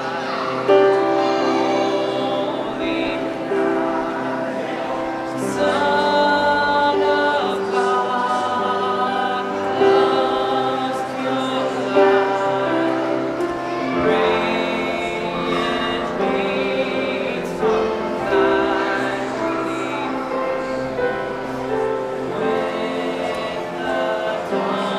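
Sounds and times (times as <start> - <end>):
backing music: 0.0 - 24.9
group singing: 0.0 - 24.9.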